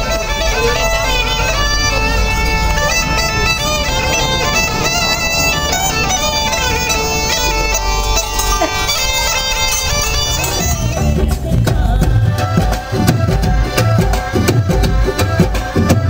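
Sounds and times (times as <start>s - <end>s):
bagpipe melody over drone: 0.0s - 16.0s
drum-led folk music: 0.0s - 16.0s.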